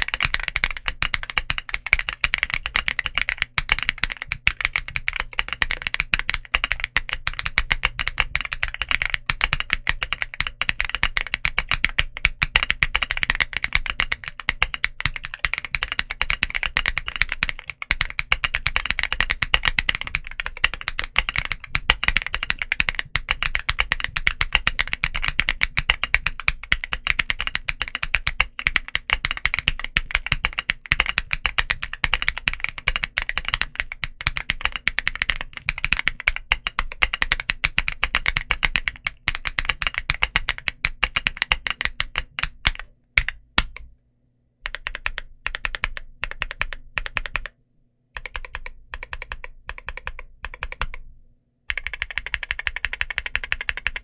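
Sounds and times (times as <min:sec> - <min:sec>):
rapid typing on mechanical keyboard: 0:00.0 - 0:43.8, 0:44.6 - 0:47.5, 0:48.2 - 0:51.0, 0:51.7 - 0:54.0.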